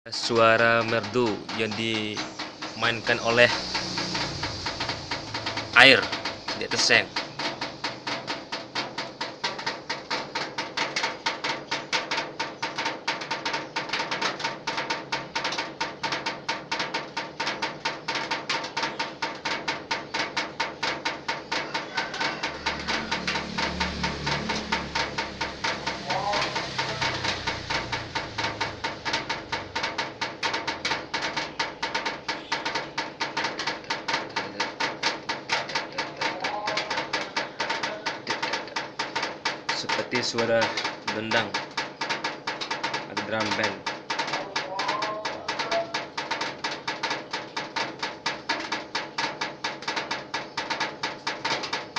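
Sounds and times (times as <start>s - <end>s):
water dripping on metal roof: 0.0s - 51.9s.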